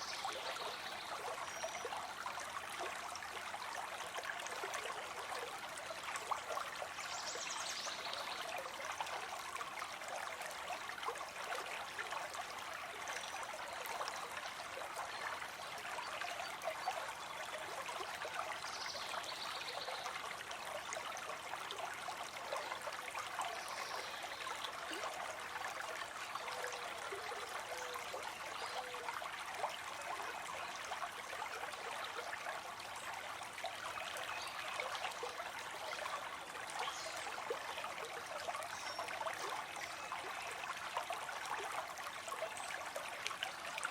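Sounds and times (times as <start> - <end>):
stream trickling and babbling: 0.0 - 43.9.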